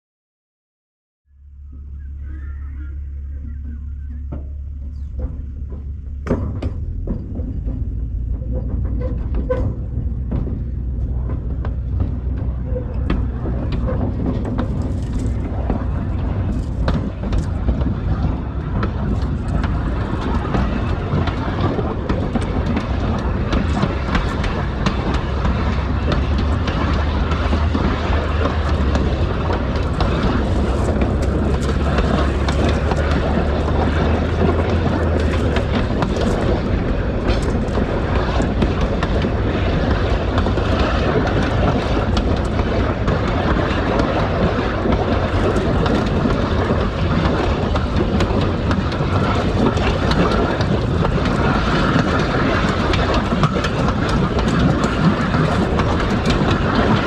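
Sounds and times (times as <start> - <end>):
low hum: 1.3 - 57.0
train wheels on rails: 1.6 - 57.0
wheel clicks over rails: 3.4 - 57.0.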